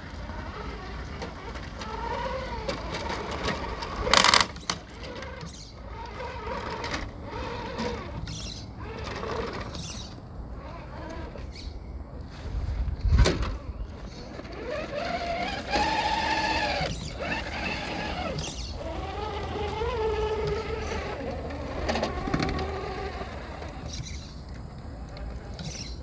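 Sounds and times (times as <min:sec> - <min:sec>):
rc truck motor whine: 0:00.0 - 0:26.0
wheels knocking on rock: 0:00.3 - 0:10.1, 0:13.1 - 0:26.0.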